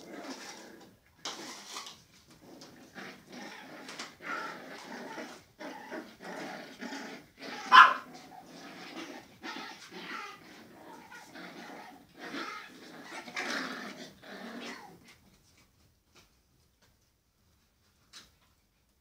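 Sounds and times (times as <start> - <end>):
puppies growling: 0.0 - 15.2.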